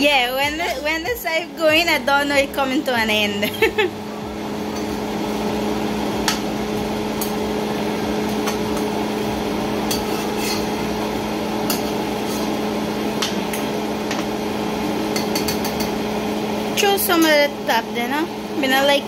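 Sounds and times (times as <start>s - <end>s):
steady hum: 0.0s - 19.0s
simmering pot hissing: 0.8s - 19.0s.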